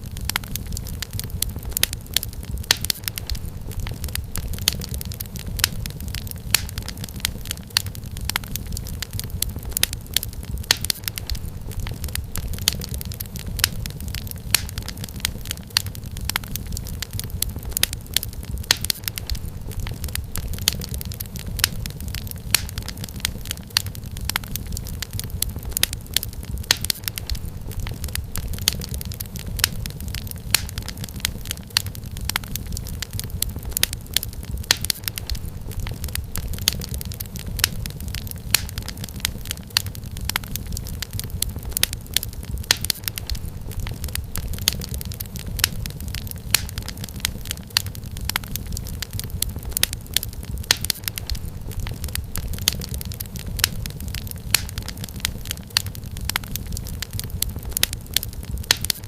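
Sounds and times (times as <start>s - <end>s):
firewood crackling: 0.0s - 59.0s
low fire rumble: 0.0s - 59.0s.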